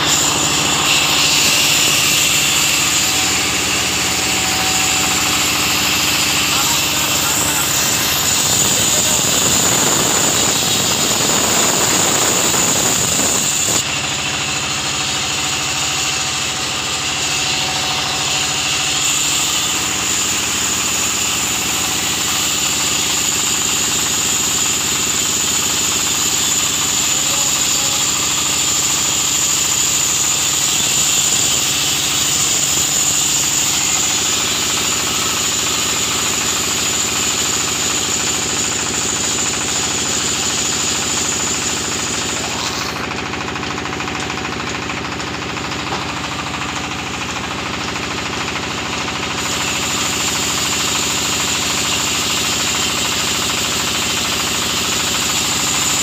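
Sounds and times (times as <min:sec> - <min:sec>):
sawmill saw machinery running: 0:00.0 - 0:56.0.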